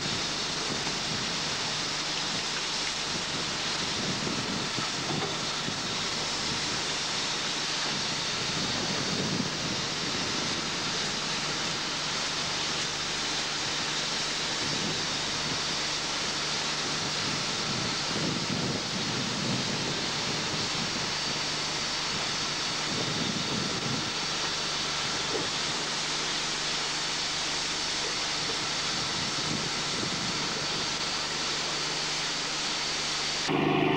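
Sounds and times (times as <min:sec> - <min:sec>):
low steady hum: 0:00.0 - 0:33.9
sea: 0:00.0 - 0:33.9.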